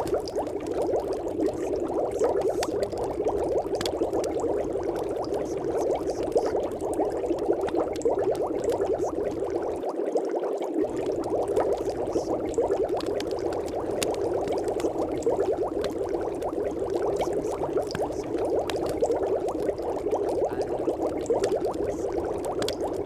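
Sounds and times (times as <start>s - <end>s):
dense bubbling: 0.0s - 23.0s.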